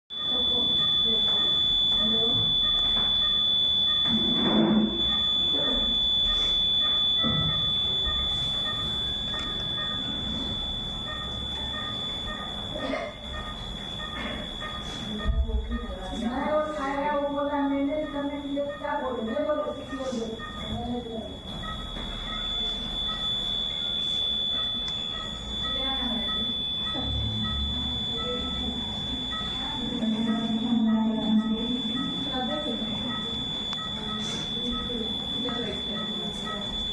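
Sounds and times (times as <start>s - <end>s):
high-pitched electronic alarm tone: 0.1s - 36.9s
short beeps: 0.1s - 36.9s
muffled voices: 0.2s - 36.9s.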